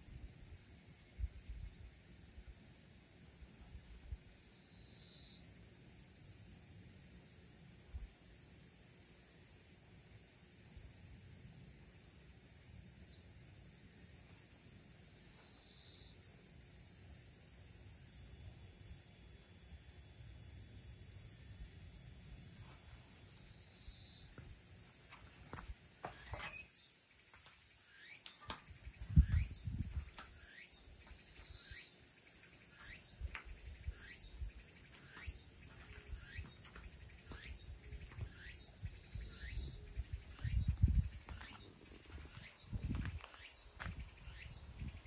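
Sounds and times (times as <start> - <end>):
insects chirping: 0.0 - 45.0.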